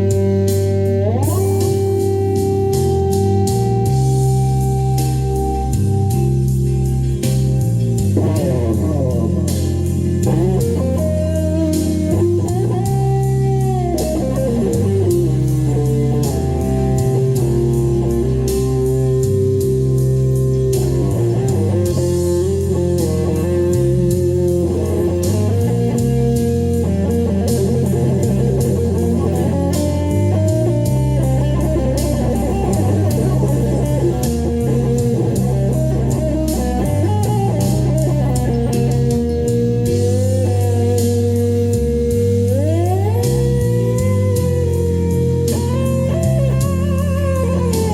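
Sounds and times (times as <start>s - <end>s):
bass: 0.0s - 47.9s
bluesy electric guitar lead: 0.0s - 47.9s
drums: 0.0s - 47.9s.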